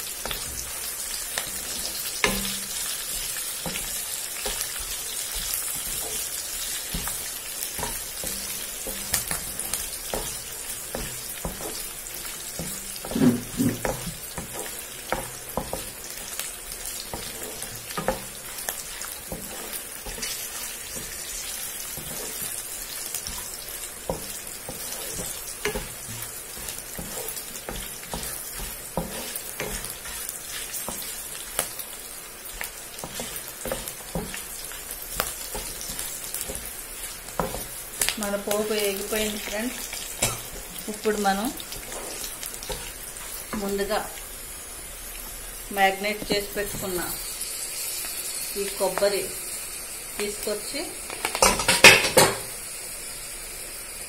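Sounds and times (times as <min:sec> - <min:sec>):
frying hiss in hot oil: 0:00.0 - 0:54.0.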